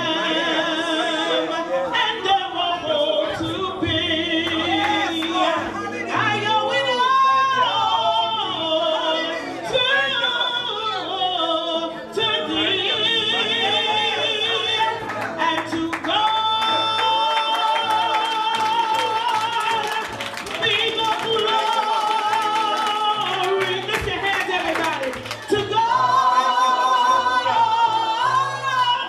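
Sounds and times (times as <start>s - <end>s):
solo singer with accompaniment: 0.0s - 29.0s.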